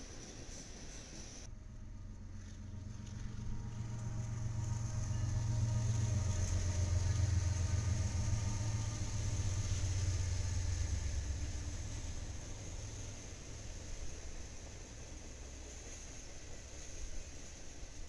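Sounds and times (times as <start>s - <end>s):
diesel locomotive engine rumble: 0.0s - 18.0s
freight cars rolling by: 0.0s - 18.0s.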